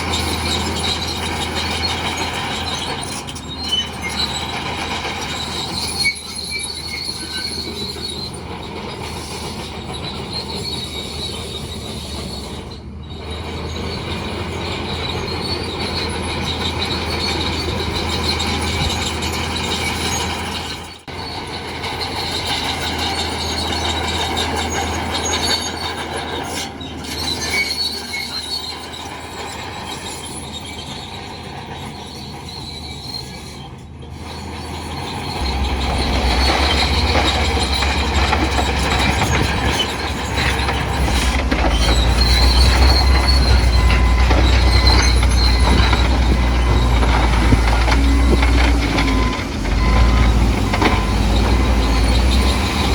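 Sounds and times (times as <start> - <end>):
diesel engine running: 0.0 - 31.4, 32.0 - 52.9
steel tracks squealing: 0.0 - 52.9.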